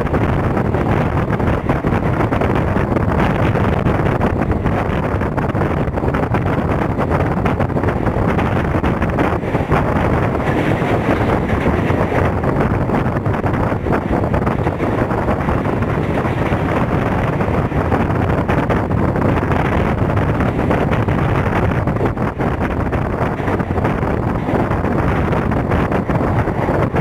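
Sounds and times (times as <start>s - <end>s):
train wheels rumbling on rails: 0.0s - 27.0s
wind buffeting microphone: 0.0s - 27.0s.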